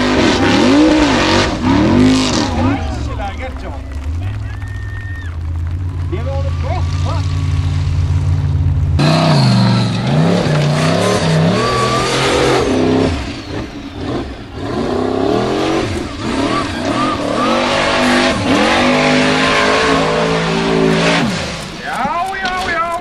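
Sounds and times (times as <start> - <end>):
buggy engine revving hard: 0.0 - 22.9.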